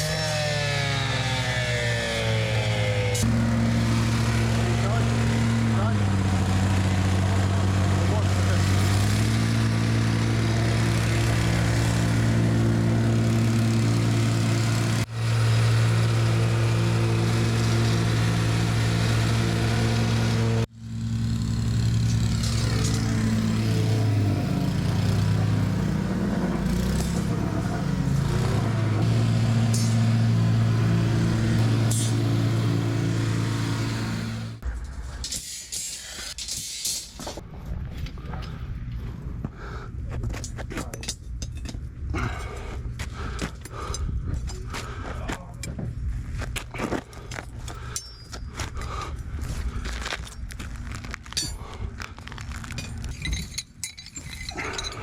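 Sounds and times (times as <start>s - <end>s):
skid steer engine running: 0.0s - 34.7s, 42.2s - 45.4s, 46.2s - 53.1s.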